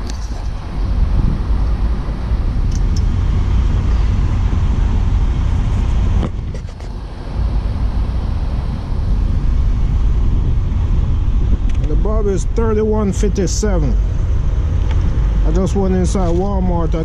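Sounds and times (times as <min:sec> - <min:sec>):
motor vehicle rumble: 0:00.0 - 0:17.0.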